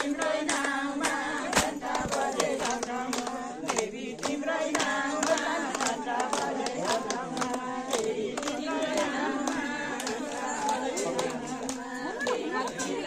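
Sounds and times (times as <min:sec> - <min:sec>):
hand-claps: 0:00.0 - 0:13.0
women singing together: 0:00.0 - 0:13.0.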